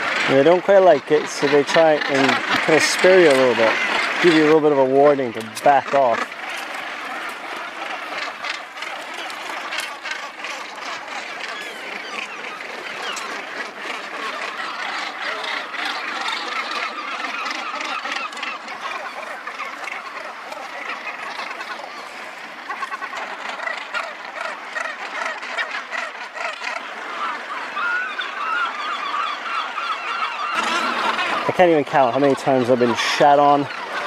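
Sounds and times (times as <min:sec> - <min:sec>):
seabird colony calling: 0:00.0 - 0:34.0.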